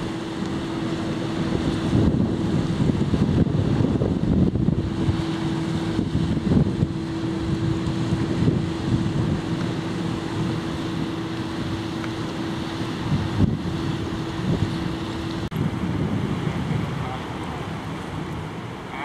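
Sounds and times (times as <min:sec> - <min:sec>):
boat engine droning: 0:00.0 - 0:19.0
wind buffeting microphone: 0:00.0 - 0:19.0.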